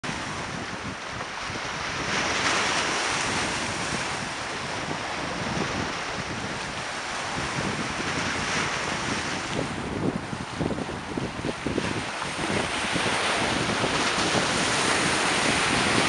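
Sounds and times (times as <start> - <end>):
wind buffeting microphone: 0.0 - 16.0
waves washing on stone shore: 0.1 - 16.0.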